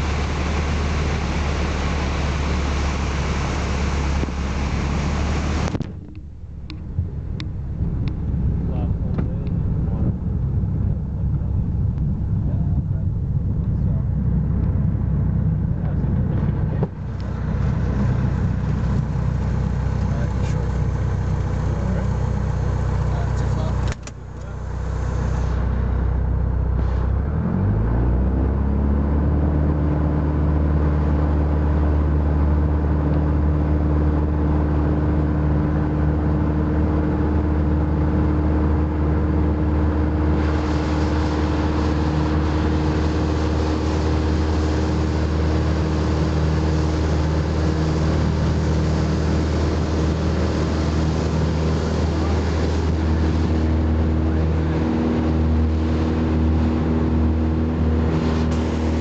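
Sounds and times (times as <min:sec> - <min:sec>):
rushing air noise: 0:00.0 - 0:23.1, 0:23.7 - 0:27.8, 0:37.7 - 0:59.0
aircraft engine and propeller: 0:00.0 - 0:59.0.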